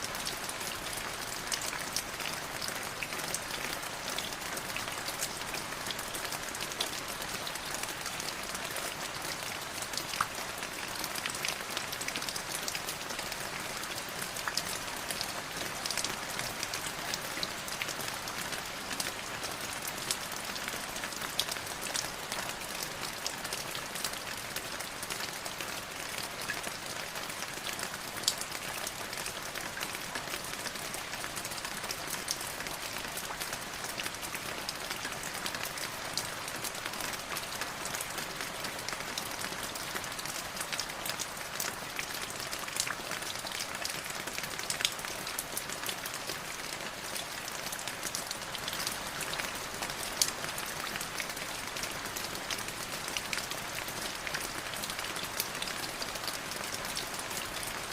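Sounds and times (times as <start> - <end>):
light drizzling rain: 0.0 - 57.9.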